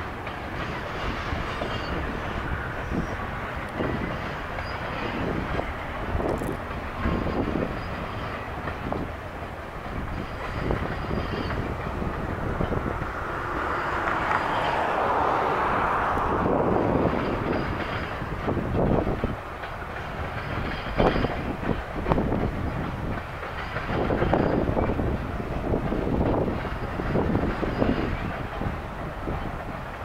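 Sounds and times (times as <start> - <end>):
train wheels rumbling on rail: 0.0 - 30.0
wheels clicking over rail joints: 0.0 - 30.0.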